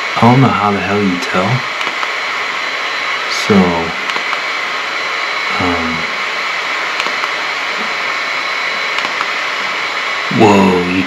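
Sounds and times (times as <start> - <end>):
fan running with high whine: 0.0 - 11.0.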